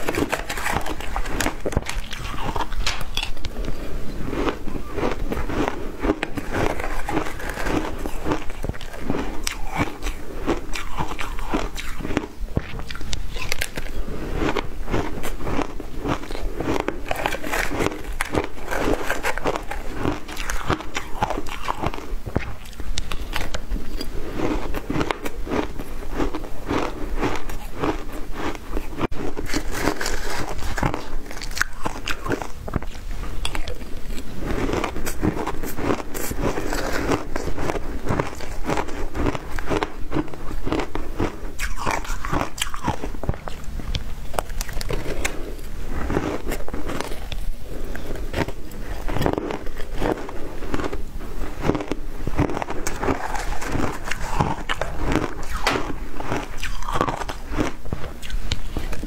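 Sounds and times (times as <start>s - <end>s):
shaved ice crunching when chewed: 0.0s - 59.0s.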